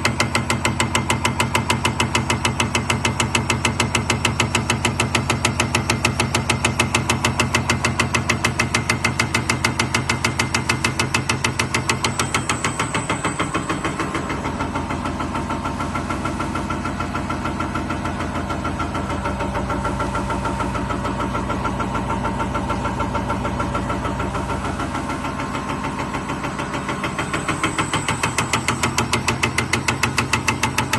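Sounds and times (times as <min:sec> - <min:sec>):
machine hum: 0:00.0 - 0:30.9.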